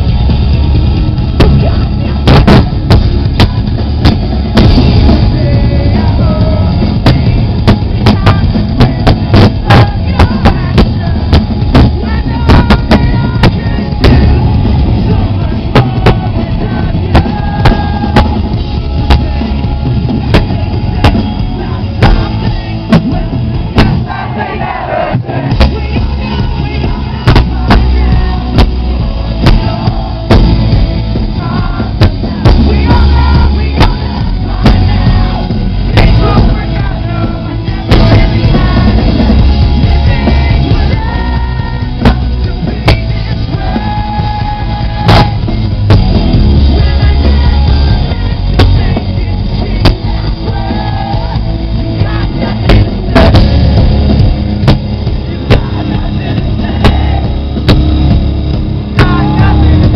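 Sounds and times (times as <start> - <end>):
loud live rock band: 0.0 - 59.9
pounding drums: 0.0 - 59.9
person singing: 1.4 - 59.9.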